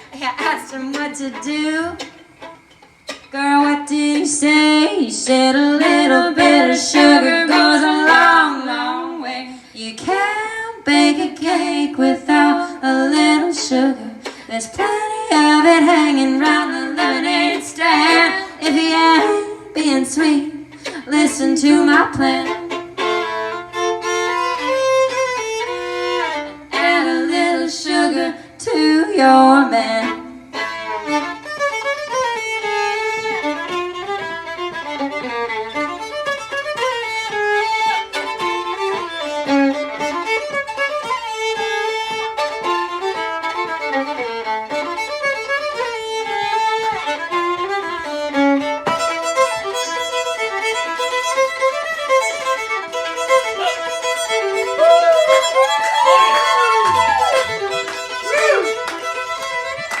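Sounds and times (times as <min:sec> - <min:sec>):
fiddle playing: 0:00.0 - 1:00.0.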